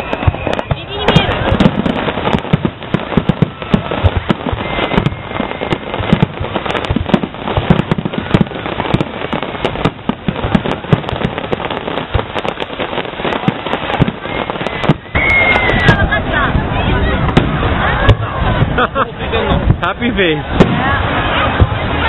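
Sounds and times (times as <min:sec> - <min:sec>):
fireworks bursting with crackling pops: 0:00.0 - 0:22.0.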